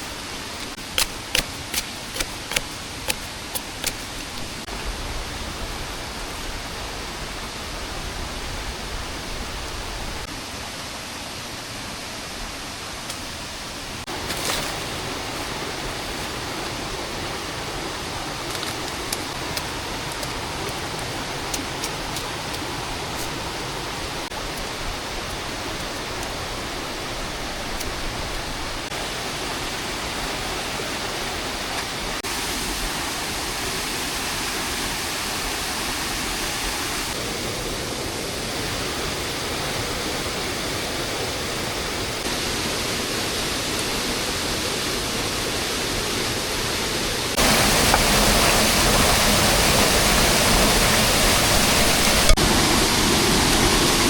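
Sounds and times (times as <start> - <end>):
heavy rain rushing: 0.0 - 54.0.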